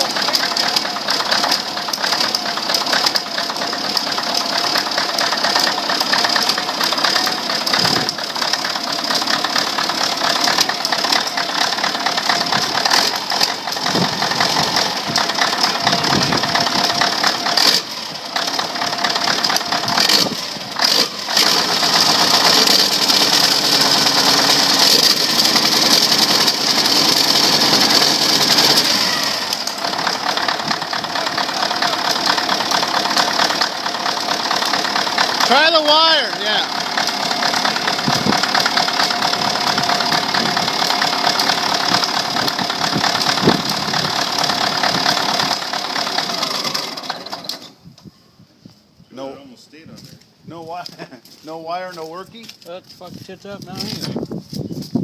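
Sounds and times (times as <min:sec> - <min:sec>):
diesel engine knocking clatter: 0:00.0 - 0:47.6.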